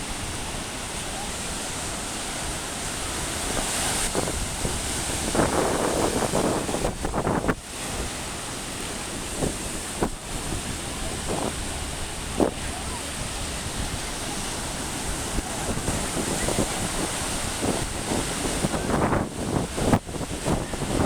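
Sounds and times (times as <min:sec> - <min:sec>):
ocean surf washing on shore: 0:00.0 - 0:21.0
wind noise on microphone: 0:00.0 - 0:21.0.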